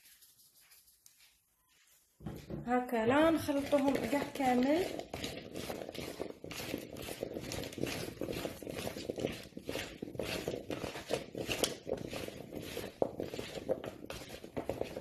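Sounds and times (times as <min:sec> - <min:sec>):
potatoes tossed in plastic bowl: 0:03.0 - 0:15.0.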